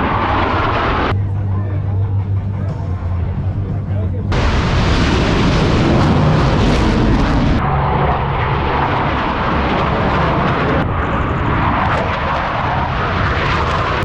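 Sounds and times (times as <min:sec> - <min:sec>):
airplane engine roar: 0:00.0 - 0:14.0.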